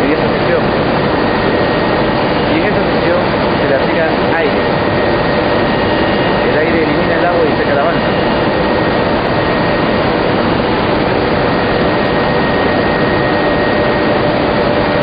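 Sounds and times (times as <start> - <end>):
blower rushing: 0.0 - 15.0
high machine whine: 0.0 - 15.0.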